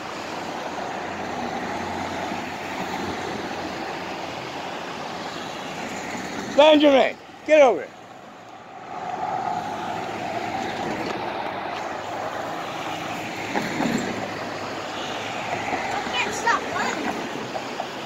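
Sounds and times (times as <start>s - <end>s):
passing vehicle rumble: 0.0s - 18.0s.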